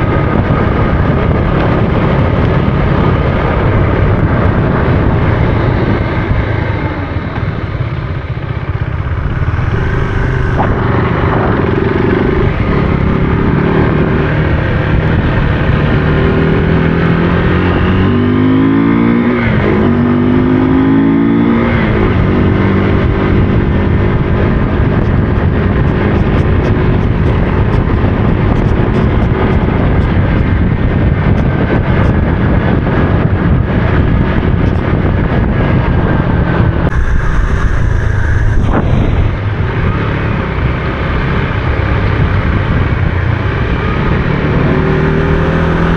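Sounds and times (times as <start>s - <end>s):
steady rushing noise: 0.0s - 18.2s, 22.0s - 45.9s
motorcycle engine running: 0.0s - 21.1s, 21.8s - 45.9s.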